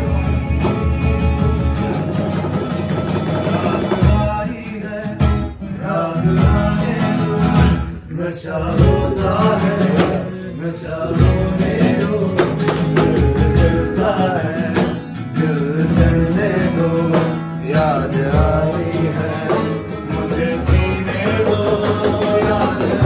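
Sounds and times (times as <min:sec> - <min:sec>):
acoustic guitar: 0:00.0 - 0:23.0
cajon beat: 0:00.0 - 0:23.0
men singing: 0:00.0 - 0:23.0.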